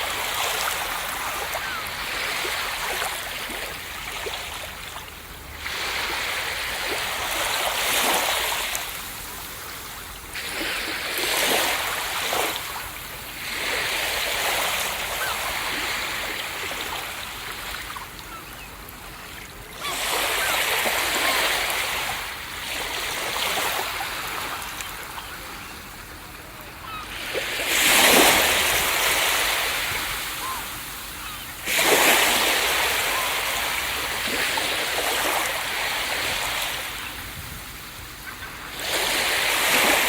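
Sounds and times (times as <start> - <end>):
ocean waves crashing on beach: 0.0 - 18.4, 19.0 - 40.0.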